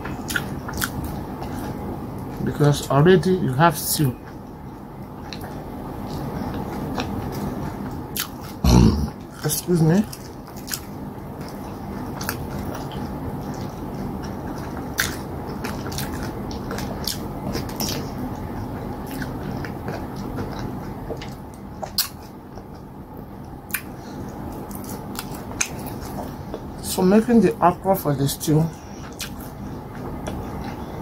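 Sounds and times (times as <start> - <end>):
person chewing food: 0.0 - 2.4, 4.2 - 26.8, 28.7 - 31.0
low background noise: 0.0 - 31.0.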